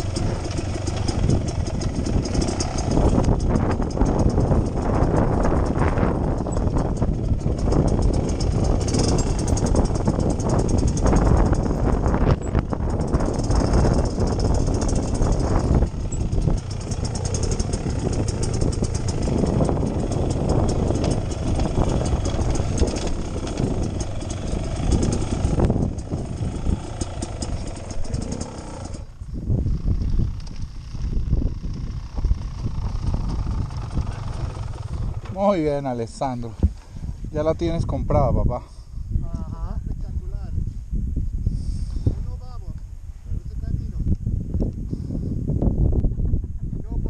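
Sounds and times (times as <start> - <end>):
motorcycle engine at low speed: 0.0 - 47.0.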